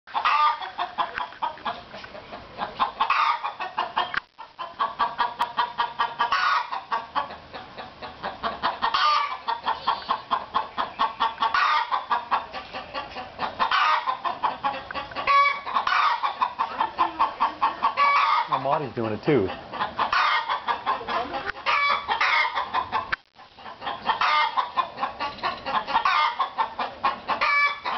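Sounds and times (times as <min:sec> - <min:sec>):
hen clucking: 0:00.1 - 0:27.9
hen squawking: 0:02.6 - 0:07.3, 0:08.2 - 0:23.1, 0:23.7 - 0:27.9.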